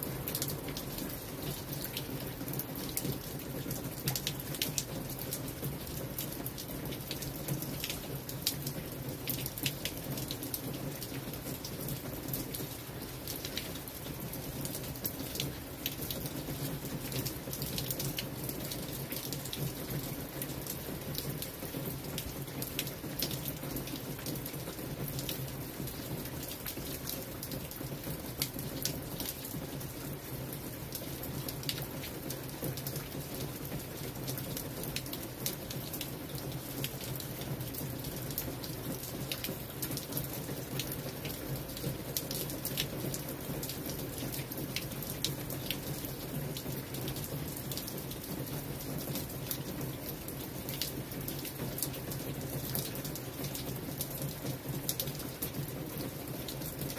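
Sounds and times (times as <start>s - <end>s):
steady rainfall: 0.0s - 56.9s
raindrops ticking: 0.1s - 56.9s.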